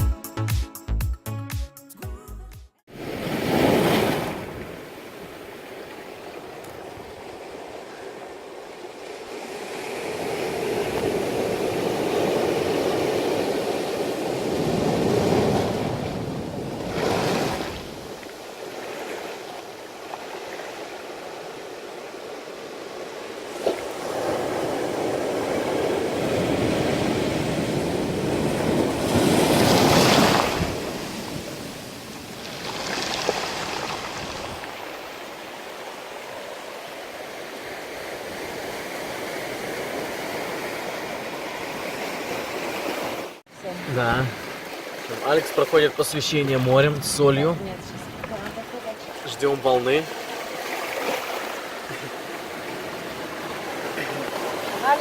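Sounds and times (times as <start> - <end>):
waves breaking on beach: 2.9 - 55.0.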